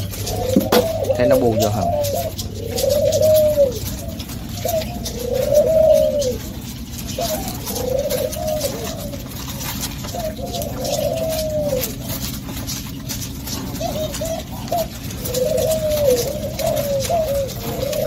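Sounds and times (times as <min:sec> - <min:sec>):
doves cooing: 0:00.0 - 0:18.0.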